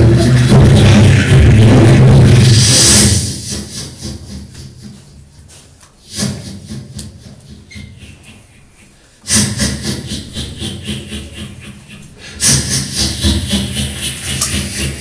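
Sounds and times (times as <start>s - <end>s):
beatboxing: 0.0s - 15.0s.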